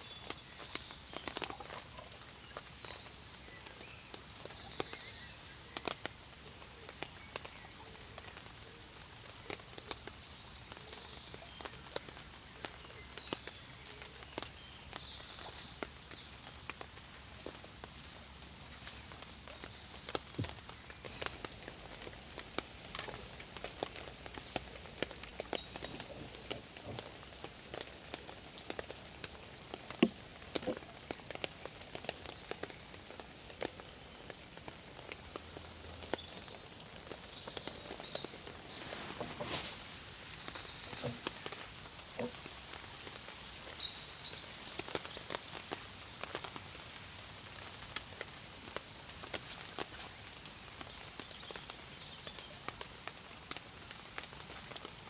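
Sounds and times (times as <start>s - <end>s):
rain dripping and pattering: 0.0s - 55.0s.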